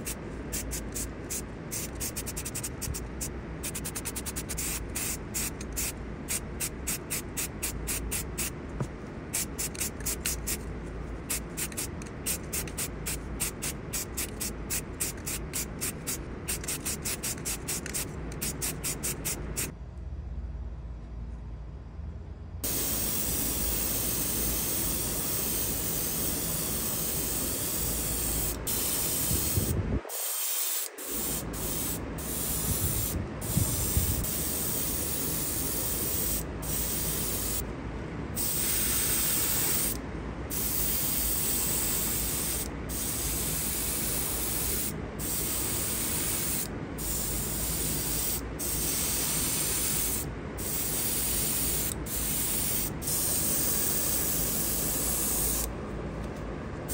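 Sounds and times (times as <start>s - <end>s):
airbrush hissing: 0.0s - 8.6s, 9.3s - 10.6s, 11.3s - 19.7s, 22.6s - 37.6s, 38.4s - 55.7s.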